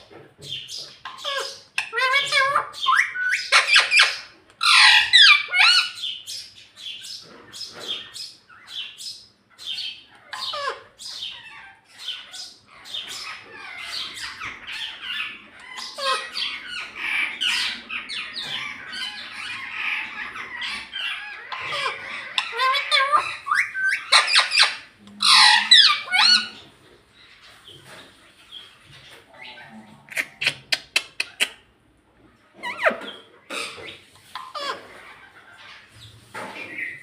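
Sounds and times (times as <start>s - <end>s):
parakeet squawking and chattering: 0.0s - 37.0s.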